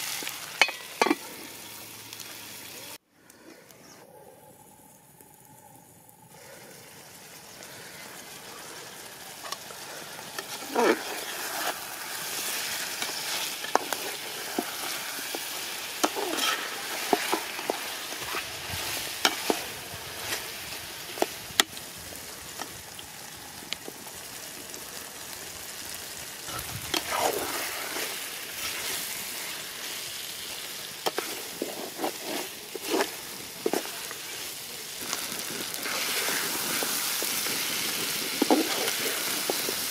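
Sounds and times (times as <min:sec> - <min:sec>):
curry sizzling: 0:00.0 - 0:03.0, 0:04.5 - 0:39.9.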